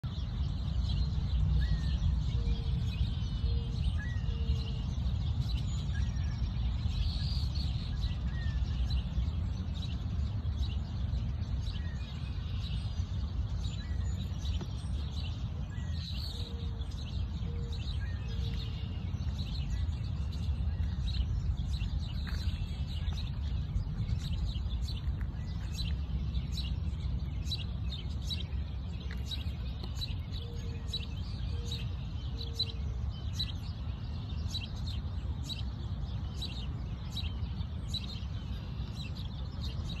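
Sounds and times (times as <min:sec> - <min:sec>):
songbirds chirping: 0:00.0 - 0:40.0
steady low rumble: 0:00.0 - 0:40.0.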